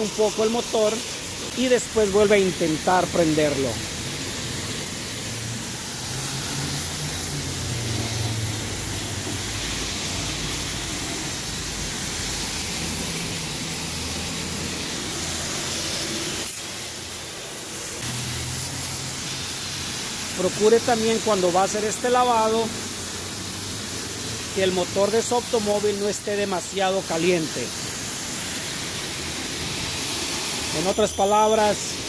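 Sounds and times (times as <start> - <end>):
water spray hissing: 0.0 - 32.0.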